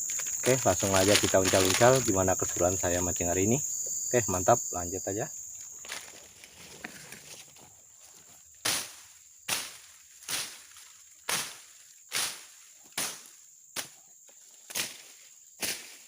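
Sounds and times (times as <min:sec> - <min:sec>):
footsteps through vegetation: 0:00.0 - 0:03.0, 0:05.5 - 0:16.0
high insect trill: 0:00.0 - 0:16.0.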